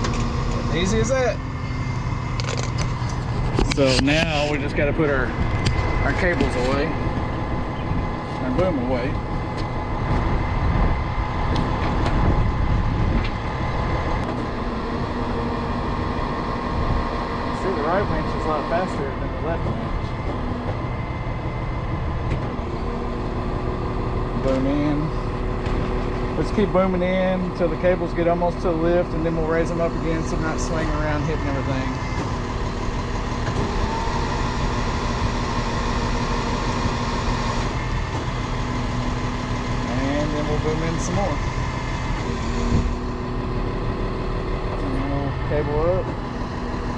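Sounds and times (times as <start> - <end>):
truck engine running: 0.0 - 46.9.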